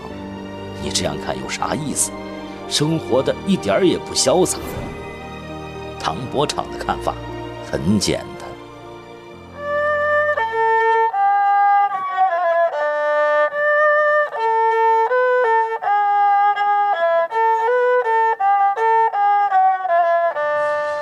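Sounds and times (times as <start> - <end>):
bowed fiddle melody: 0.0 - 21.0.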